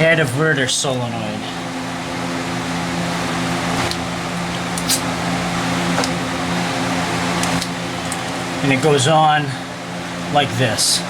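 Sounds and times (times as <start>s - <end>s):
fan humming: 0.0s - 11.0s.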